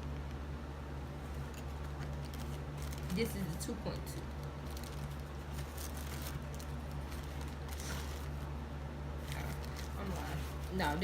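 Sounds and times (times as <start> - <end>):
steady low hum: 0.0 - 11.0
plastic packaging rustling: 1.2 - 8.6, 9.2 - 11.0.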